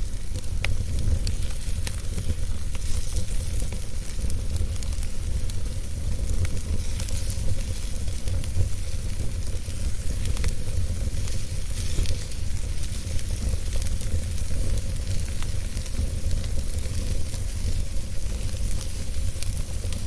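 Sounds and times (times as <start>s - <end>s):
crackles and pops of burning logs: 0.0s - 20.0s
fire rumbling and hissing: 0.0s - 20.0s.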